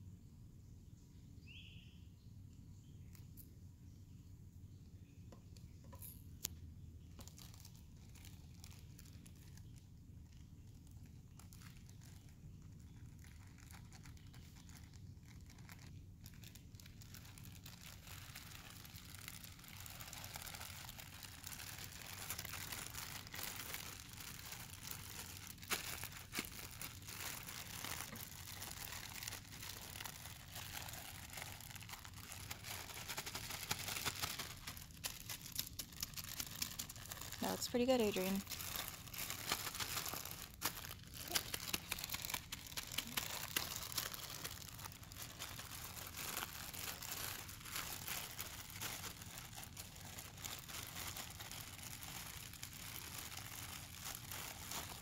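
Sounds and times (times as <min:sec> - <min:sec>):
plastic bags of rice crinkling: 0:05.9 - 0:55.0.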